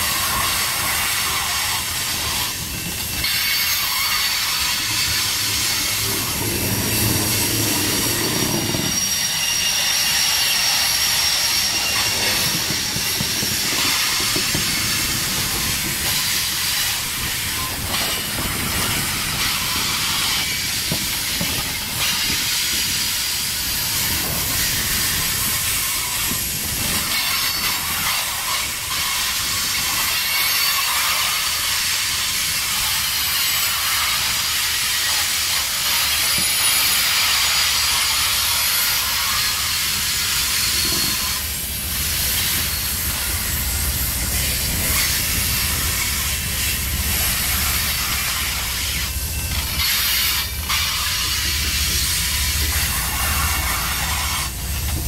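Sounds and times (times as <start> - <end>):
low train rumble: 0.0 - 55.0
steel wheels hissing on rails: 0.0 - 55.0.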